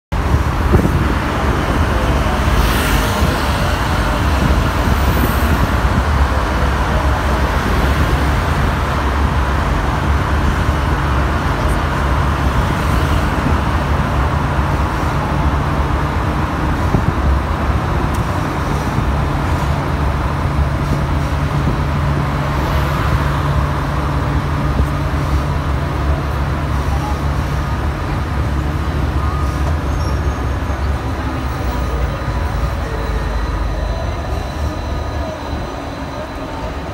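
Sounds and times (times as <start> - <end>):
traffic rumble in tunnel: 0.1 - 36.9
vehicles passing with hiss: 0.2 - 33.6.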